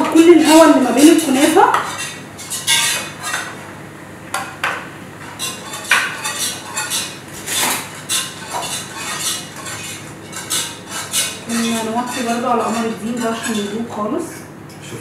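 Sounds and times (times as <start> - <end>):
utensils clinking against pots: 0.0 - 3.6, 5.2 - 14.2
spoon stirring in pot: 0.2 - 3.6, 4.4 - 14.2.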